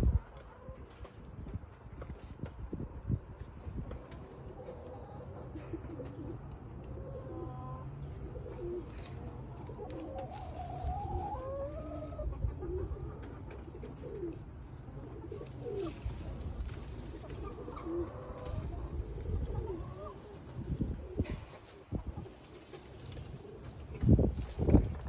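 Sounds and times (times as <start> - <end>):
hens clucking softly: 3.4 - 25.0.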